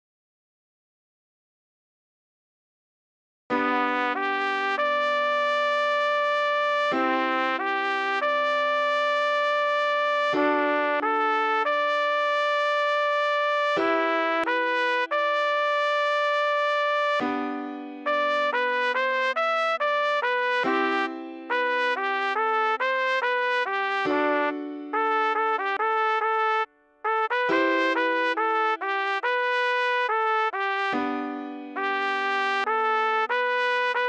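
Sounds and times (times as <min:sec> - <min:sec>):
trumpet playing slow melody: 0:03.5 - 0:34.0.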